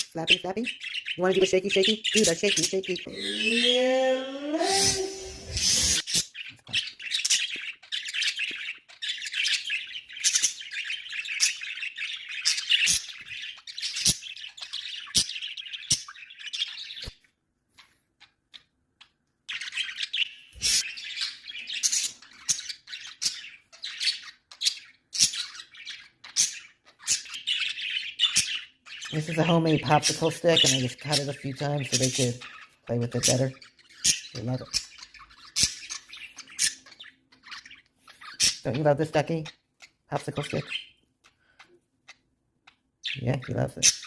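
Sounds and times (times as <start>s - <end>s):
budgerigars chattering and chirping: 0.0s - 44.0s.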